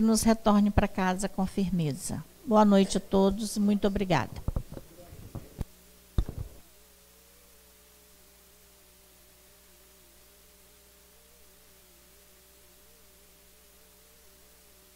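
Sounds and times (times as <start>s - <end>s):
faint steady hum: 0.0s - 14.9s.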